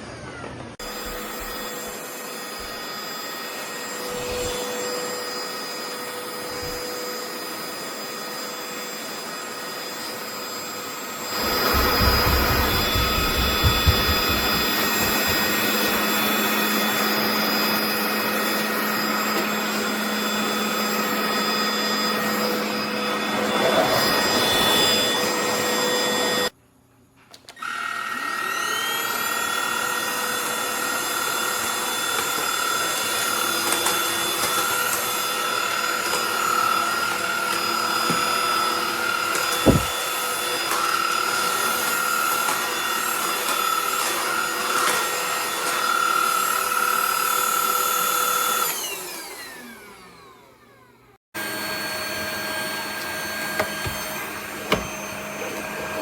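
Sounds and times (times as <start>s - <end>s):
vacuum motor high whine: 0.0s - 26.6s, 27.6s - 56.0s.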